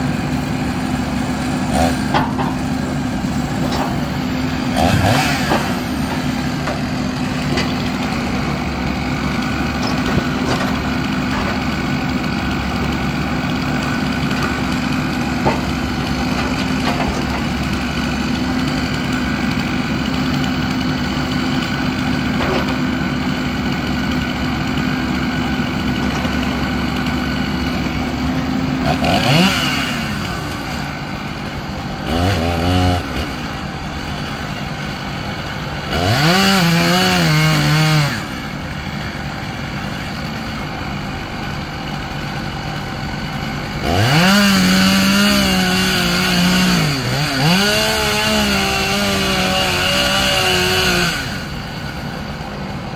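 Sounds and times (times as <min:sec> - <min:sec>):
chainsaw revving: 0:00.0 - 0:52.9
engine running steadily: 0:00.0 - 0:52.9.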